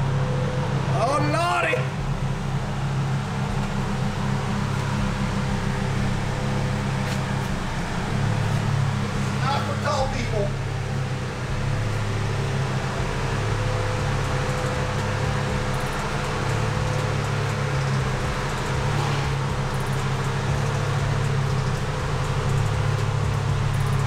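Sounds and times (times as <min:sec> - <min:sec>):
machinery low hum: 0:00.0 - 0:24.0.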